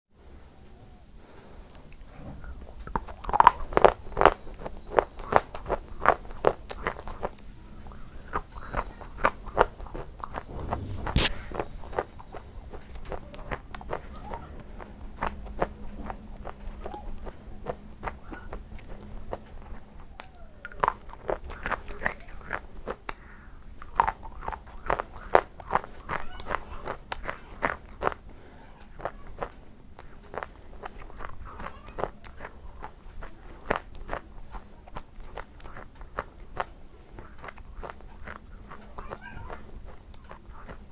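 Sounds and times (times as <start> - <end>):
crunching potato chips: 1.3 - 40.9.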